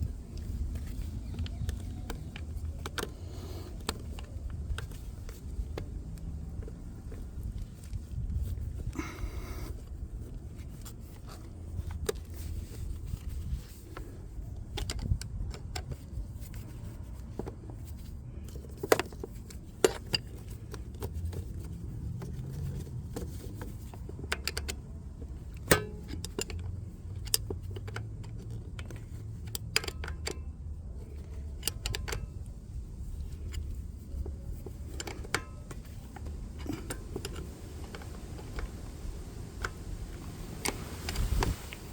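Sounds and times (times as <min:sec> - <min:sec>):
low steady rumble: 0:00.0 - 0:41.9.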